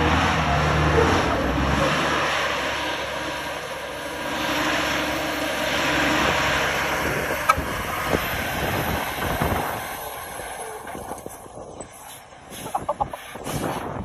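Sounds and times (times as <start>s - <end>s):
truck engine labouring: 0.0s - 14.0s.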